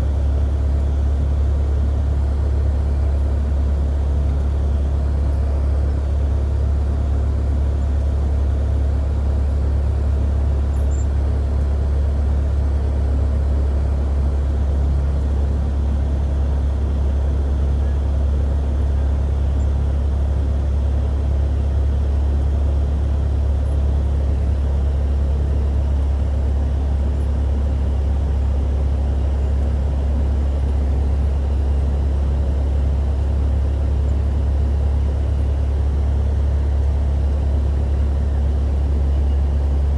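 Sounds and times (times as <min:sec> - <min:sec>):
small plane engine drone: 0:00.0 - 0:39.9.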